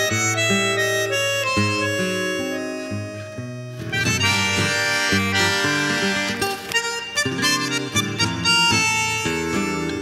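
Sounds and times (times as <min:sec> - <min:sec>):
bandoneon chords: 0:00.0 - 0:10.0
plucked acoustic guitar: 0:00.0 - 0:10.0.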